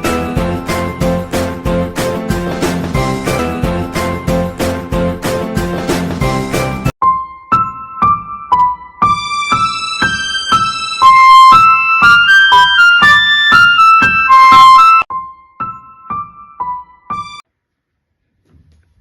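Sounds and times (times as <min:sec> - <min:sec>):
keyboard melody: 0:00.0 - 0:17.4.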